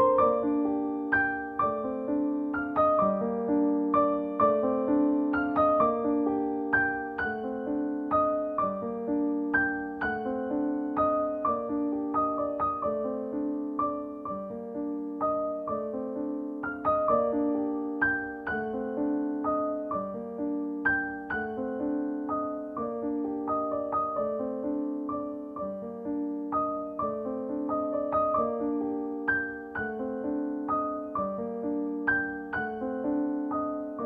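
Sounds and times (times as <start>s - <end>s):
piano single notes: 0.0s - 34.0s.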